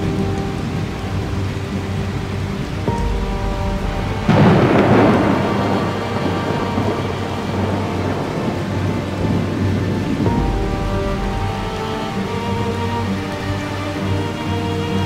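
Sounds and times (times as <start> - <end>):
heavy rain hiss: 0.0 - 15.0
thunder rumbling: 0.0 - 15.0.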